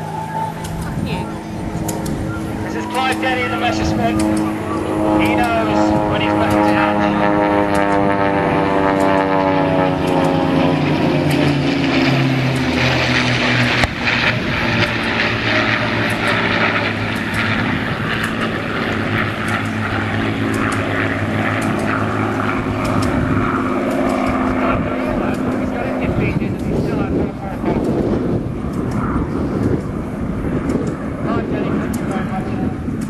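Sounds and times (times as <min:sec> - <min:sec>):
propeller warplanes flying past: 0:00.0 - 0:33.0.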